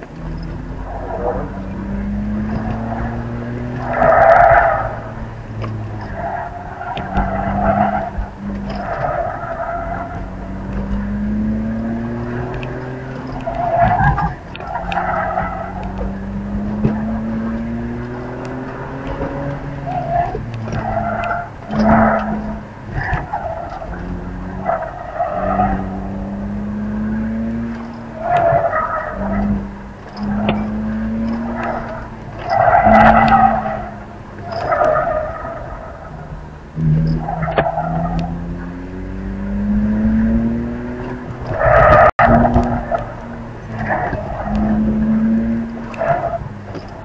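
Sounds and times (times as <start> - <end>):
tyres squealing: 0.0 - 38.4
car engine revving: 0.0 - 47.0.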